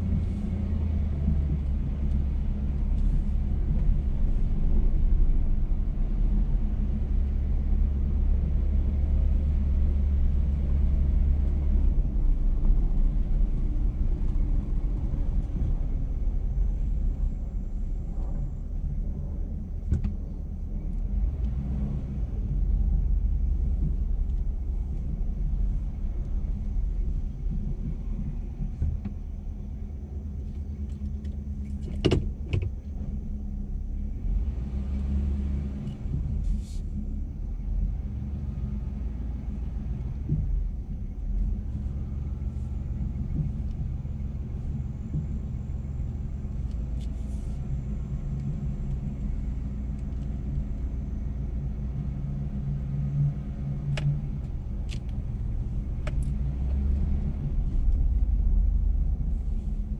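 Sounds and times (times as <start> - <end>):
truck engine rumble: 0.0 - 59.9.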